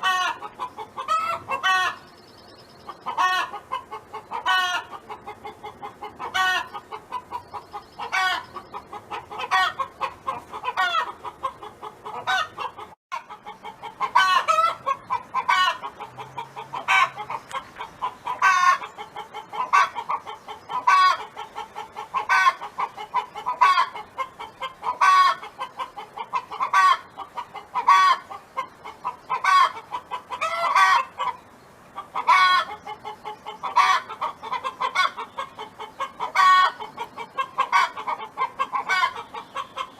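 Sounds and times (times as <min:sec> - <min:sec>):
hen clucking: 0:00.0 - 0:39.9.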